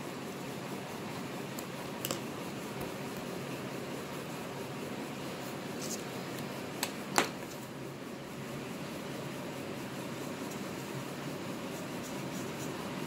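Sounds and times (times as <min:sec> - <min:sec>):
fan-like room hum: 0:00.0 - 0:13.0.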